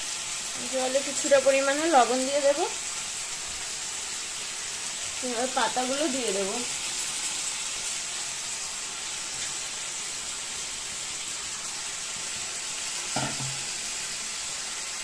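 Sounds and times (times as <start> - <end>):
pot of water hissing on burner: 0.0 - 15.0.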